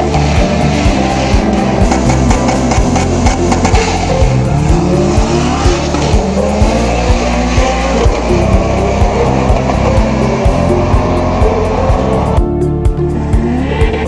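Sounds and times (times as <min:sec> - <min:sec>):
car engine revving: 0:00.0 - 0:14.0
music with steady beat: 0:00.0 - 0:14.0.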